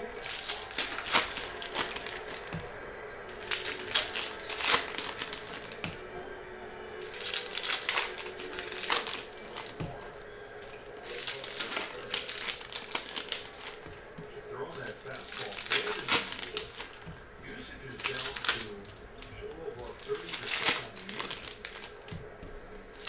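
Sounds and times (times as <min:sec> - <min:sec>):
cards clicking: 0:00.0 - 0:06.1, 0:06.9 - 0:23.0
foil wrappers crinkling: 0:00.0 - 0:06.1, 0:06.9 - 0:23.0
background music: 0:00.0 - 0:23.0.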